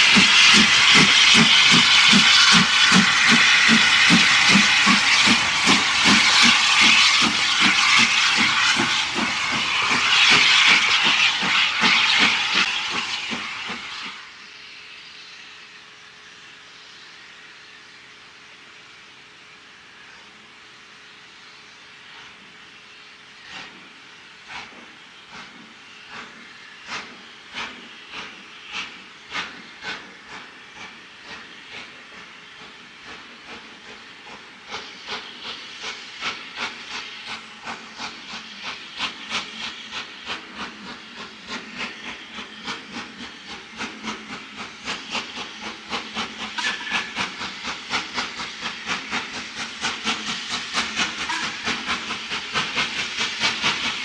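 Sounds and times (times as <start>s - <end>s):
hiss of steam: 0.0s - 54.0s
steam locomotive chuffing: 0.0s - 54.0s.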